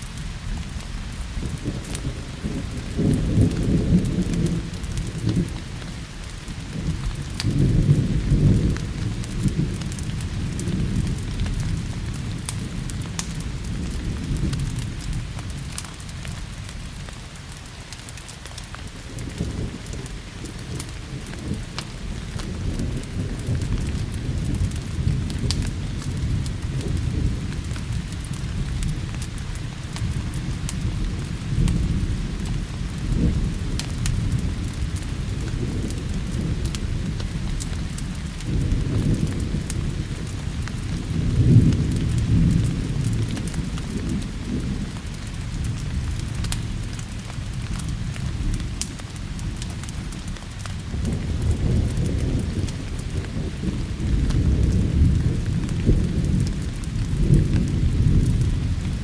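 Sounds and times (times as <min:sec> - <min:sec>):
thunder rumbling: 0:00.0 - 0:18.0, 0:18.6 - 0:59.0
rain falling: 0:00.0 - 0:59.0
wood fire crackling: 0:00.0 - 0:59.0.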